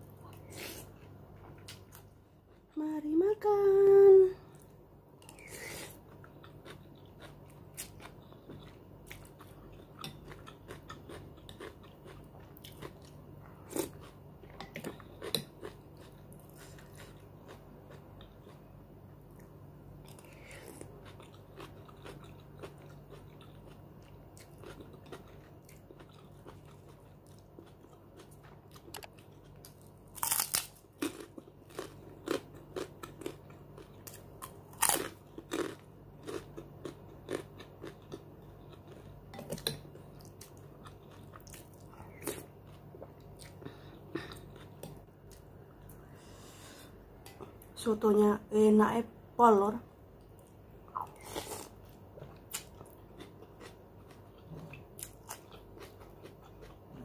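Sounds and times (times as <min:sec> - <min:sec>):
chewing and mouth sounds: 0:04.5 - 0:18.7, 0:19.3 - 0:46.0, 0:50.2 - 0:57.0.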